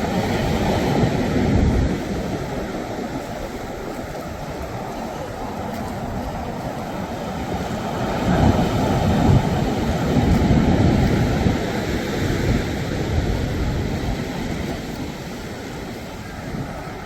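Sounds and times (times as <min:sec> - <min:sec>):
sea waves breaking on shore: 0:00.0 - 0:17.0
wind buffeting microphone: 0:00.0 - 0:17.0.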